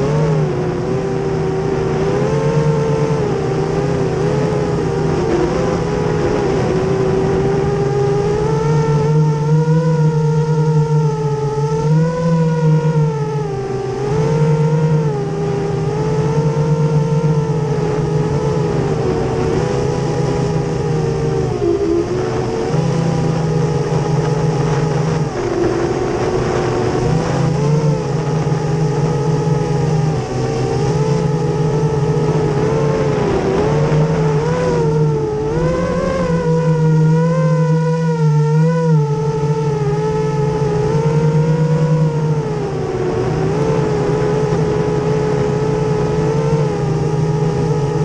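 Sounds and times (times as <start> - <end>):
drone motors whining: 0.0 - 48.0
low steady hum: 0.0 - 48.0.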